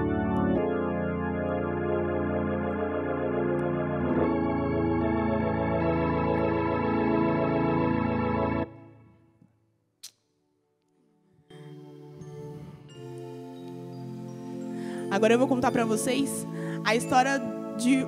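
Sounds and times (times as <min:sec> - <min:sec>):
synthesizer organ-like chords: 0:00.0 - 0:09.1, 0:11.5 - 0:18.0.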